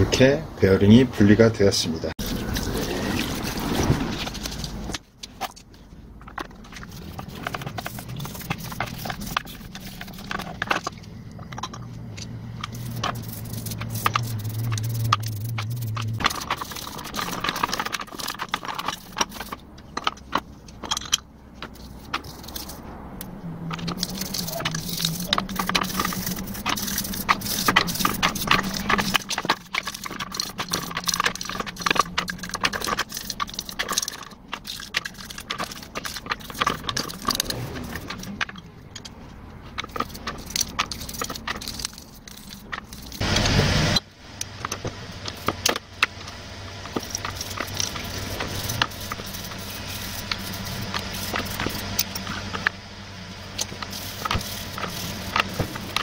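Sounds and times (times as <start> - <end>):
low steady hum: 0.0 - 56.0
brush scrubbing metal housing: 2.2 - 52.8, 53.4 - 56.0
metal parts clinking and scraping: 2.2 - 52.8, 53.4 - 56.0.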